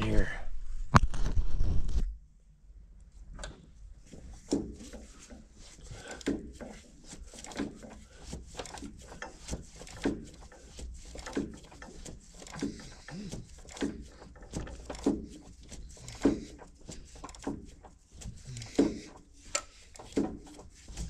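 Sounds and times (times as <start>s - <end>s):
metal clunks and creaks: 3.3s - 21.0s.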